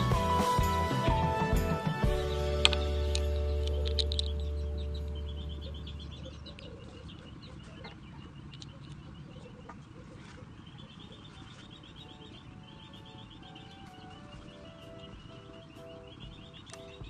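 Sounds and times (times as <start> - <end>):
low steady hum: 0.0 - 17.0
faint rapid chirping trills: 1.4 - 17.0.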